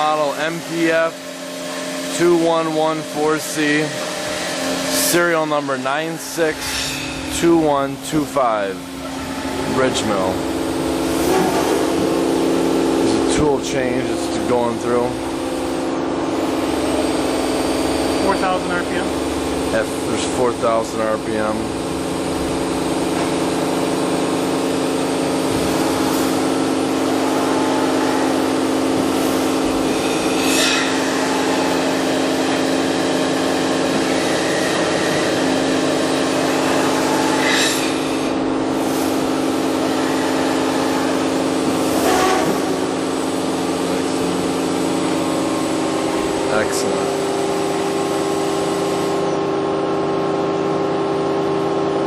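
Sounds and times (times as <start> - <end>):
machine spindle hum: 0.0 - 52.0.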